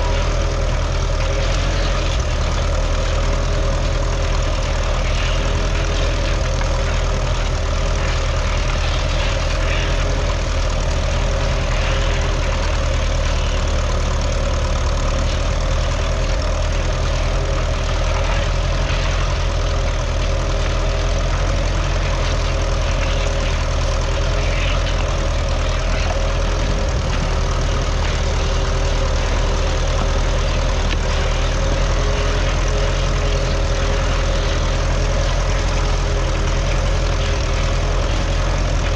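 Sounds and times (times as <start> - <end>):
tractor engine running steadily: 0.0 - 38.9.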